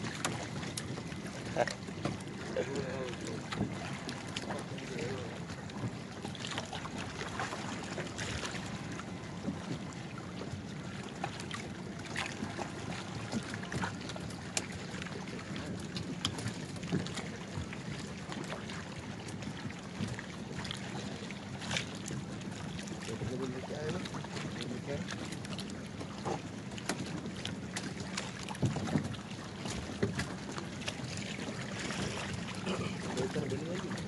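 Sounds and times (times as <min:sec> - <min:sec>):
water lapping around canoes: 0:00.0 - 0:34.0.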